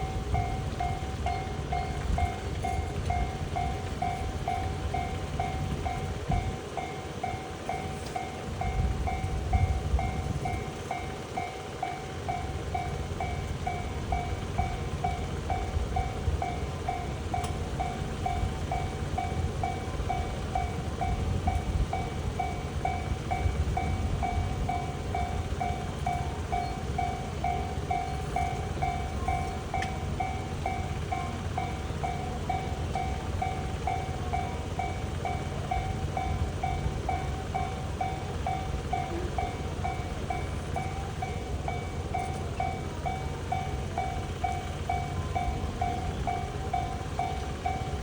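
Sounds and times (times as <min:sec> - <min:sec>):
railroad crossing warning bell: 0:00.0 - 0:48.0.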